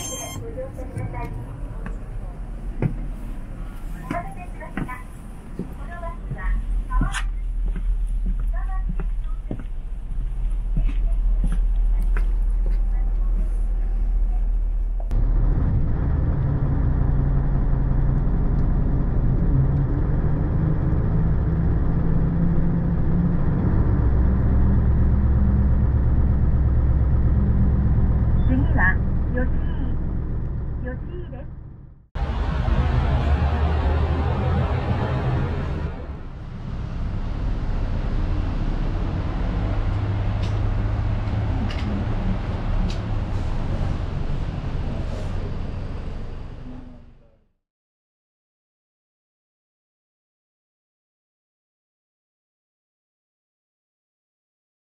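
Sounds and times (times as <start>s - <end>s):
bus engine droning: 0.0s - 47.5s.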